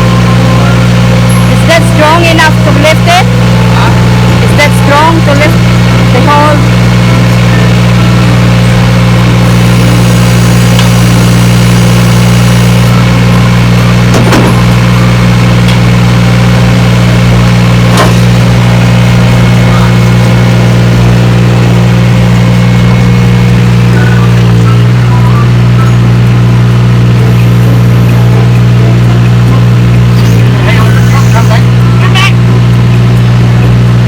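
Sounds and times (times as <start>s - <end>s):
engine idling loudly: 0.0s - 34.0s.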